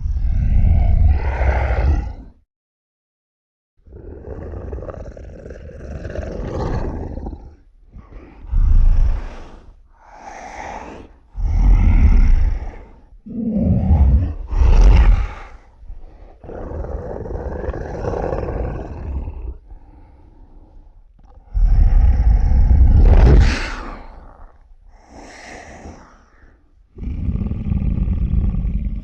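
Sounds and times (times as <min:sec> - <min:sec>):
animal roars: 0:00.0 - 0:02.4, 0:03.8 - 0:29.0
quieter animal growl: 0:00.0 - 0:02.4, 0:03.8 - 0:29.0.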